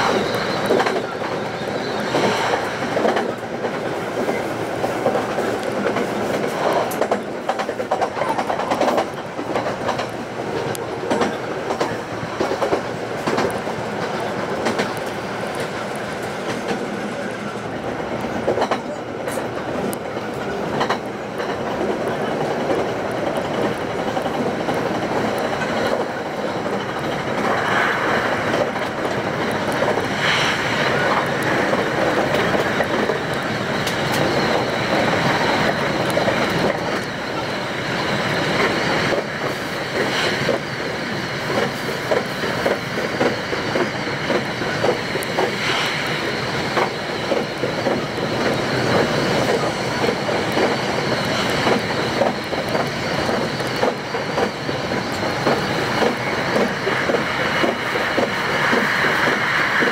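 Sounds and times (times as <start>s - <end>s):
train wheels rattling on rails: 0.0s - 59.9s.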